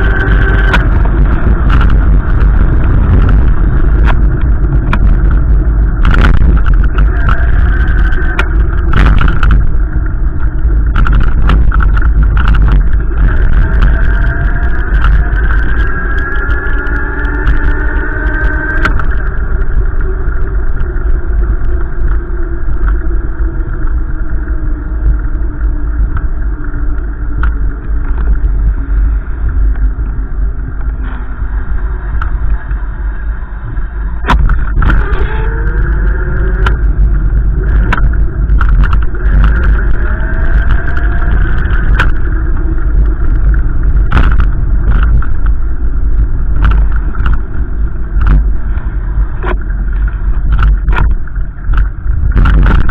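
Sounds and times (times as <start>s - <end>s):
car engine and road noise: 0.0s - 52.9s
wind buffeting microphone: 0.0s - 52.9s.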